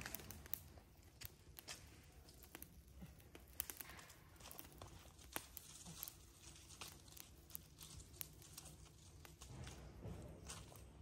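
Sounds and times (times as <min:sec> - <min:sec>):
sharp pops of fire: 0:00.0 - 0:11.0
wood fire crackling: 0:00.0 - 0:11.0.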